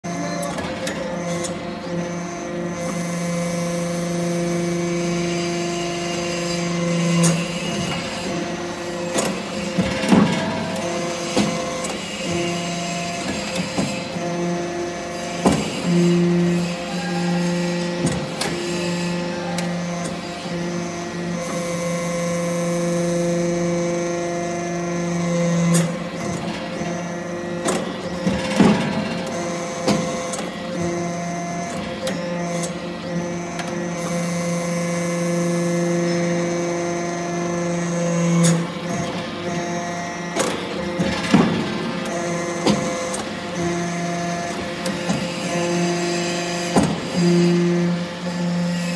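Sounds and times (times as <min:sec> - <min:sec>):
hydraulic press hum: 0:00.1 - 0:48.9.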